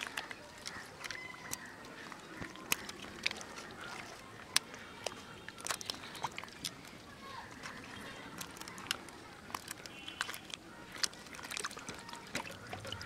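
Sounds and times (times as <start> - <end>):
small fish splashing: 0.0 - 13.0.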